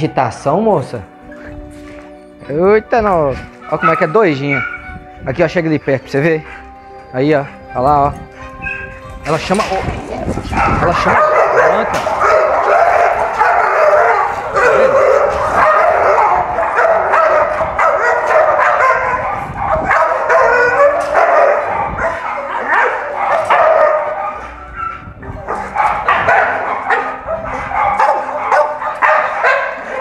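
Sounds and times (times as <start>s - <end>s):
dogs barking and whining: 1.0s - 30.0s.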